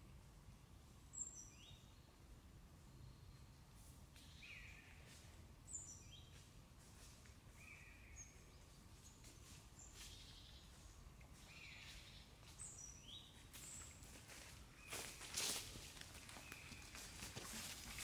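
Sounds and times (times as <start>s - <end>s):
faint birdsong: 0.0s - 18.0s
low background hiss: 0.0s - 18.0s.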